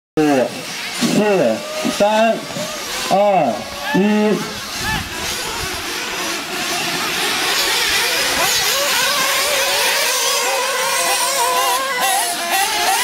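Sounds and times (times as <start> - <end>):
small engines whining: 0.2 - 13.0.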